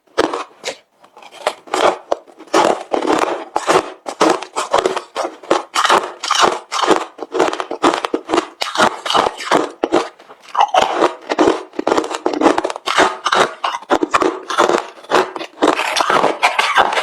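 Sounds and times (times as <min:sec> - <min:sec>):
chewing crunchy ice: 0:00.1 - 0:17.0.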